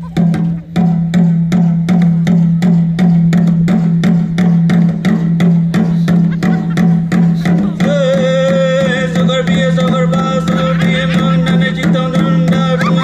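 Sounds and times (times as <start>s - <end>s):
rapid sharp percussion strikes: 0.0s - 13.0s.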